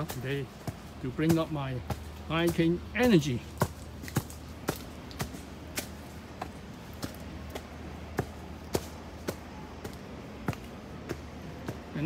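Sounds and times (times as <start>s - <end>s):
footsteps on concrete steps: 0.0s - 12.0s.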